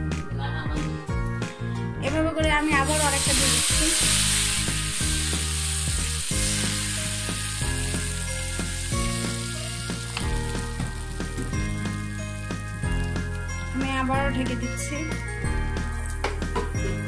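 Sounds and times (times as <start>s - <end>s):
background music: 0.0s - 17.0s
batter sizzling on hot pan: 2.6s - 17.0s.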